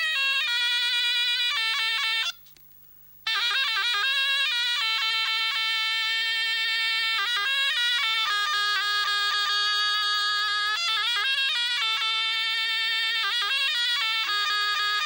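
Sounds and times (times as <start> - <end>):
reed wind instrument folk melody: 0.0 - 2.4, 3.2 - 15.0.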